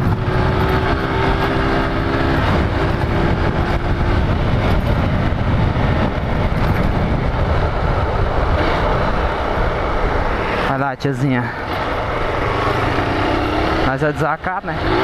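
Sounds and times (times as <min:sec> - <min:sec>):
wind noise on microphone: 0:00.0 - 0:14.0
motorcycle engine running: 0:00.0 - 0:15.0
road noise: 0:00.0 - 0:15.0.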